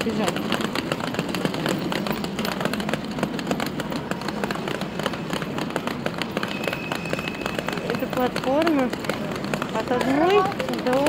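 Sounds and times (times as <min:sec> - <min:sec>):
bus station rumble: 0:00.0 - 0:11.0.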